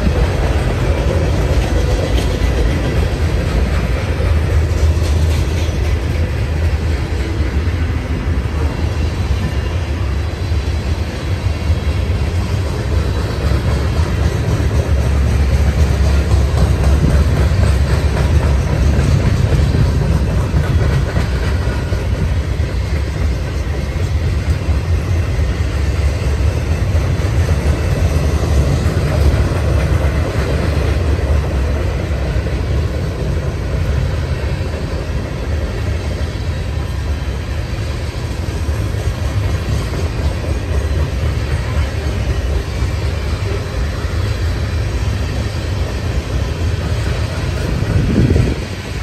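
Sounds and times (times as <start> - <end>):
wheel clickety-clack: 0.0 - 9.6, 11.1 - 49.0
train wheels rumbling on rails: 0.0 - 49.0.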